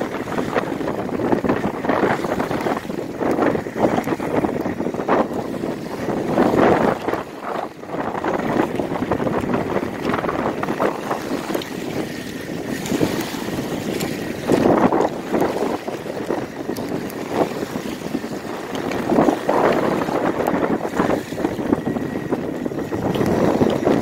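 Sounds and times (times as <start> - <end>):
small waves washing on shore: 0.0 - 24.0
wind buffeting microphone: 0.0 - 24.0.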